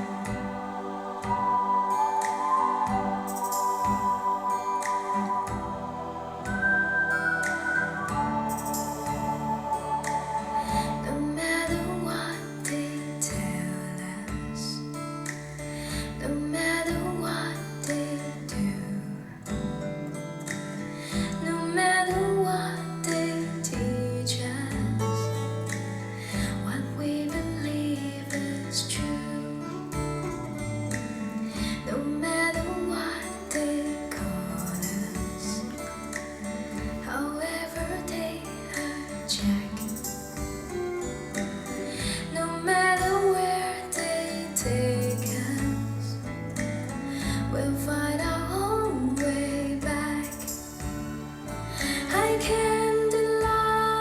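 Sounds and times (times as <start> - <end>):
acoustic guitar instrumental music: 0.0 - 54.0.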